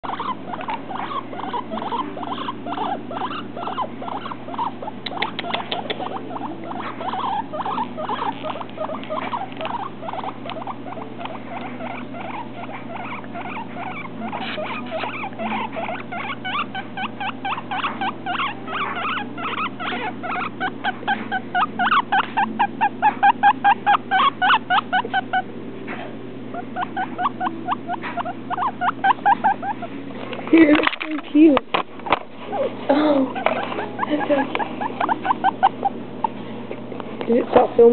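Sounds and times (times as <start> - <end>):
guinea pig squeaking: 0.0 - 37.9.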